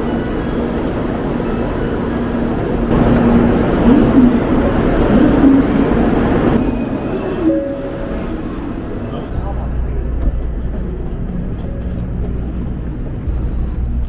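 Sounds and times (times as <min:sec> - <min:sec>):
stopped train rumble and hum: 0:00.0 - 0:14.0
rushing noise: 0:02.4 - 0:14.0.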